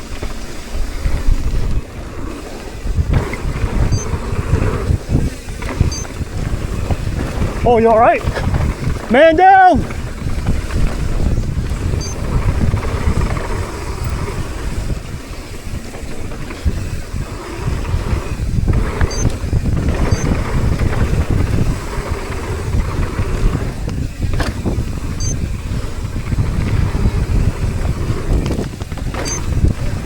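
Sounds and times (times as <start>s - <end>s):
tyres rumbling on dirt: 0.0s - 30.0s
wind rushing over microphone: 0.0s - 30.0s.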